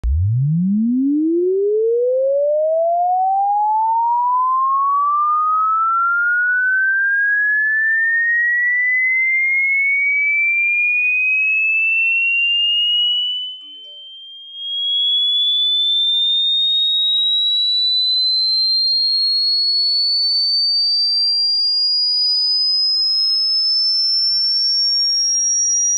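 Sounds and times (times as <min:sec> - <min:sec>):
sine tone sweeping upward: 0:00.0 - 0:25.9.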